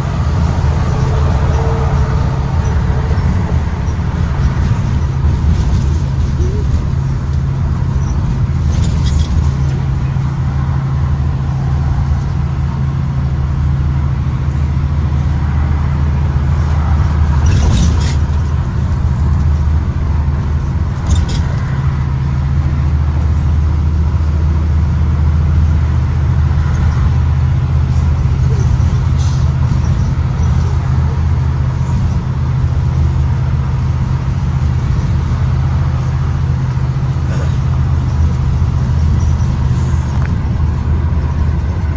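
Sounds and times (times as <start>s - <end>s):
bus engine and road drone: 0.0s - 41.9s.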